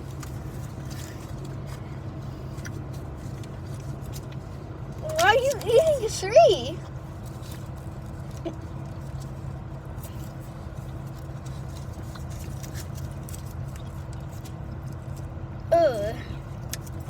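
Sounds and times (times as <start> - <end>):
small clicks and rustles: 0.0 - 6.0, 6.9 - 15.4, 16.5 - 17.0
faint constant hum: 0.0 - 17.0.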